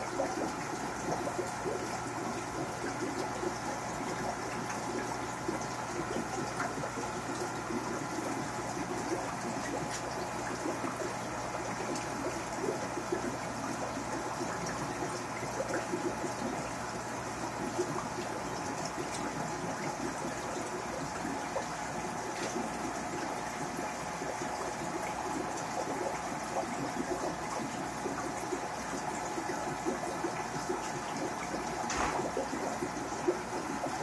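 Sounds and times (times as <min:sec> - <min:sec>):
aquarium water trickling and bubbling: 0:00.0 - 0:34.0.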